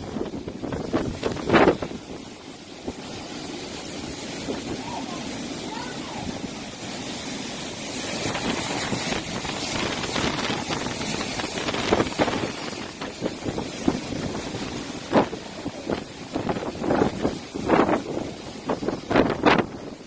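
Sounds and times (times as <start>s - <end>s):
strong wind blowing: 0.0s - 20.0s
wind gusts buffeting microphone: 0.0s - 20.0s.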